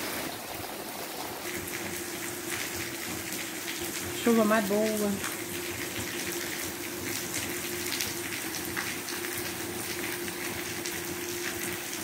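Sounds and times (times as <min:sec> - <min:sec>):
raindrops hitting surfaces: 0:00.0 - 0:12.0
steady rain falling: 0:00.0 - 0:12.0.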